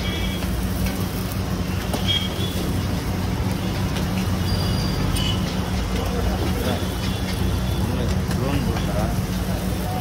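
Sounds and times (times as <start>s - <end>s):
street background noise: 0.0s - 10.0s.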